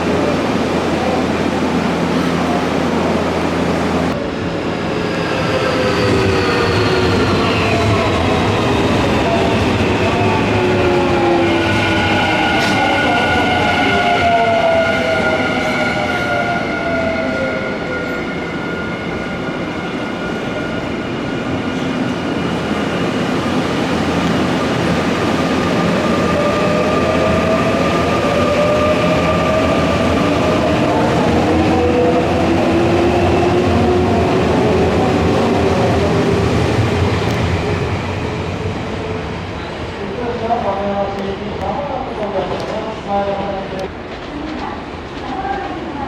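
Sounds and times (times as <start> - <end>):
rumble of train wheels: 0.0 - 46.0.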